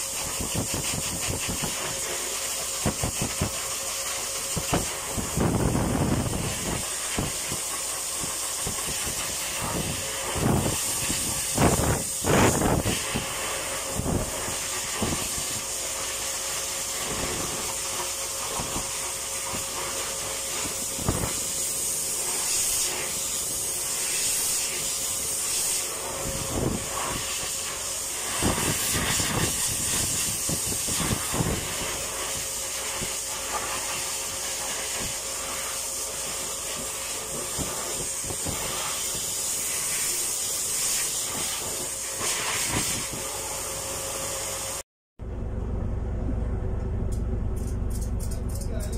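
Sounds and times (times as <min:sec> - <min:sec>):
hose dryer blowing air: 0:00.0 - 0:48.9.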